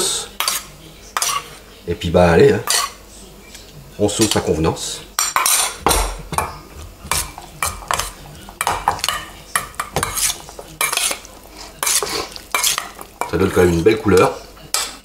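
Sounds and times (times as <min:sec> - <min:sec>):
utensil scraping and clinking bowl: 0:00.3 - 0:01.6, 0:02.4 - 0:15.0.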